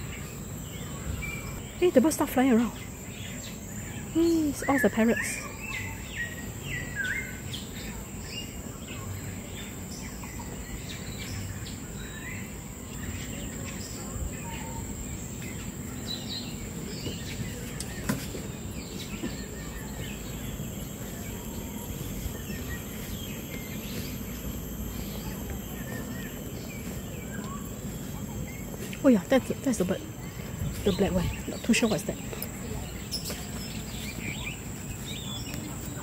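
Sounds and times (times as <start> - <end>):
birds chirping and whistling: 0.0 - 36.0
steady high-pitched hum: 0.0 - 36.0.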